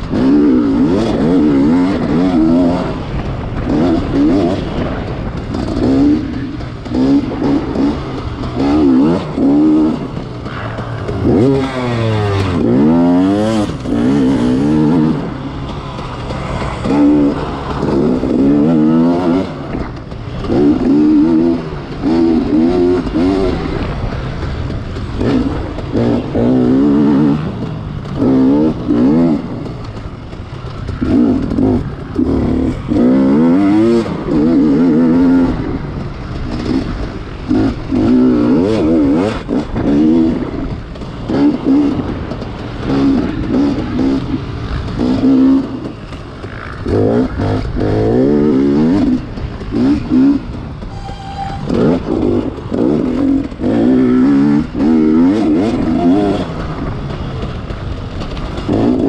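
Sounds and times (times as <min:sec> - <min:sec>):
motorcycle engine revving: 0:00.0 - 0:59.0
rough clatter: 0:00.0 - 0:59.0.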